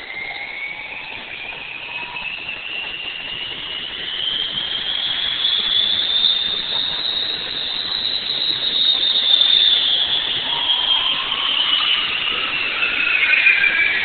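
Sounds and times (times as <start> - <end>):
helicopter turbine whining: 0.0 - 14.0.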